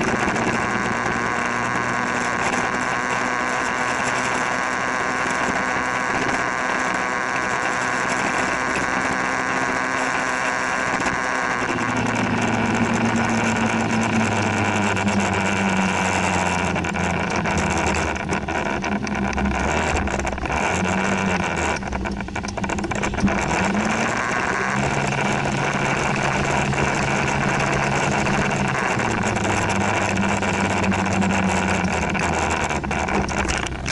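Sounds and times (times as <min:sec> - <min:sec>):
road noise: 0:00.0 - 0:33.9
scooter engine running: 0:00.0 - 0:33.9
wind: 0:00.0 - 0:33.9.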